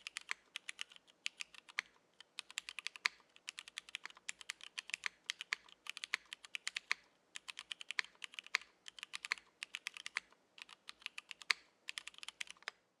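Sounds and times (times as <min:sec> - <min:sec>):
mechanical keyboard typing: 0:00.0 - 0:12.8.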